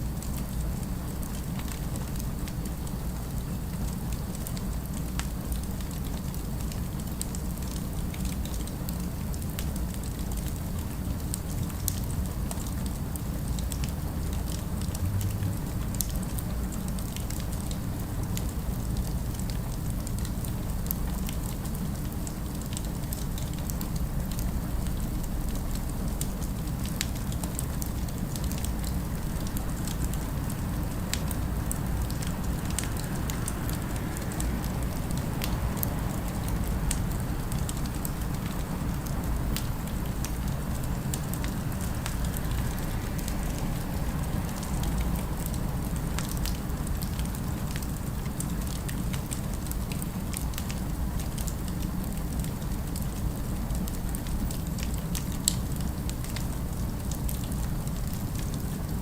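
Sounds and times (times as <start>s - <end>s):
low rumble of city ambience: 0.0s - 59.0s.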